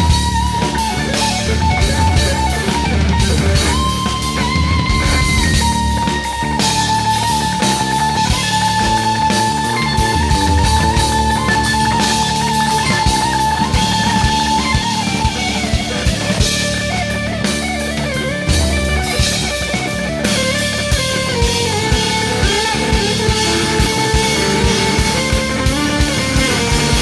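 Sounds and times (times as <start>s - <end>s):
rock music with guitar and drums: 0.0s - 27.0s.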